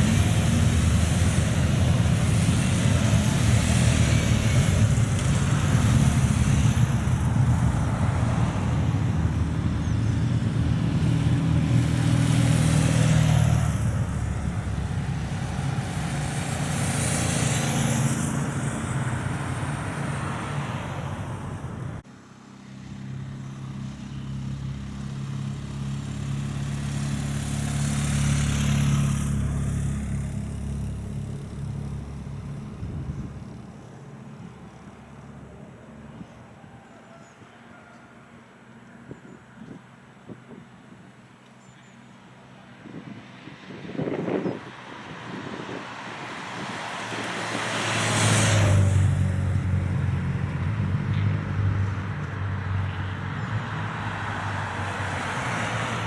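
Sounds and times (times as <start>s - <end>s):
car passing: 0.0s - 22.0s, 23.2s - 36.2s, 42.8s - 56.0s
motorcycles passing: 0.0s - 22.0s, 22.6s - 36.4s, 42.7s - 56.0s.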